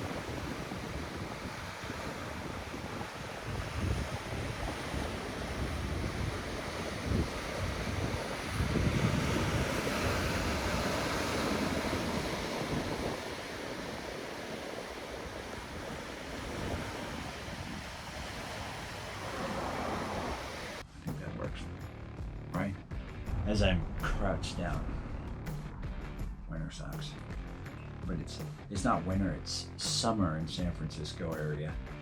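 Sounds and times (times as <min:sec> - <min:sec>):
wind gusts buffeting microphone: 0:00.0 - 0:20.8, 0:23.0 - 0:29.4.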